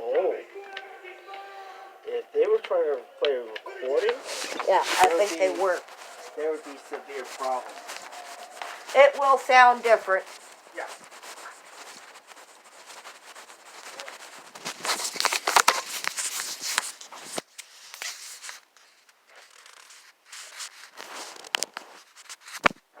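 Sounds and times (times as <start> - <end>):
rustling and crackling: 2.2 - 22.8.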